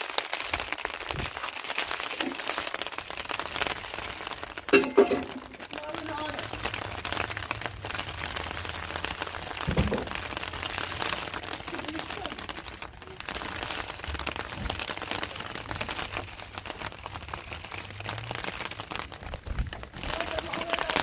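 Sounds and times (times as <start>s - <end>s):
heavy rain pattering: 0.0s - 21.0s.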